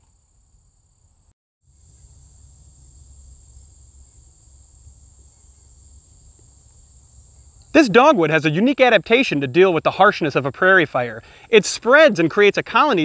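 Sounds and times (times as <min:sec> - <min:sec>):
insects trilling: 0:00.1 - 0:13.0.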